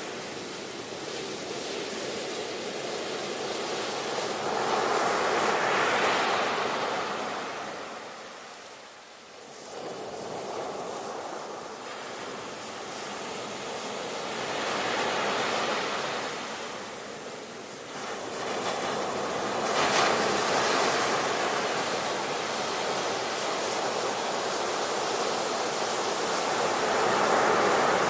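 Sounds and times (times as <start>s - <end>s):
ocean waves washing ashore: 0.0s - 28.0s.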